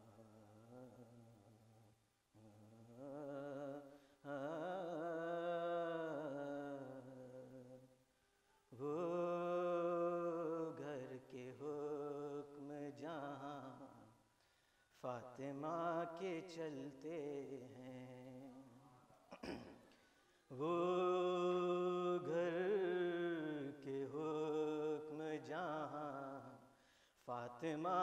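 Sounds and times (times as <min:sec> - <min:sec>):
man singing unaccompanied: 0:00.0 - 0:07.9, 0:08.7 - 0:14.2, 0:15.0 - 0:19.6, 0:20.5 - 0:28.0.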